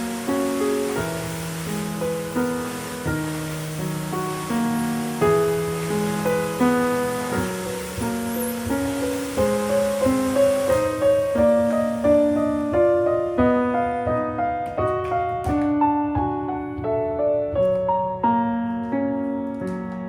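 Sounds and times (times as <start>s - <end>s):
gentle piano music: 0.0s - 20.0s
soft rain-like hiss: 0.0s - 20.0s.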